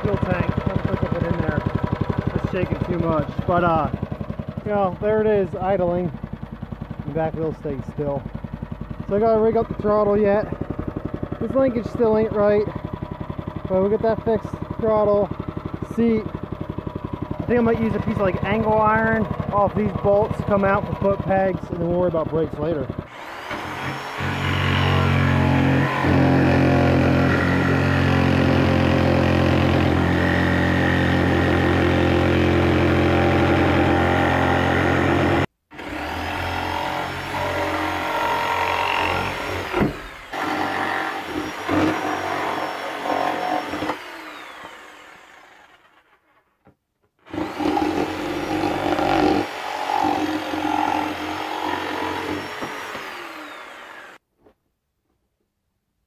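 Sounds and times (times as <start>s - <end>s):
jigsaw cutting wood: 0.0s - 46.4s, 47.2s - 54.2s.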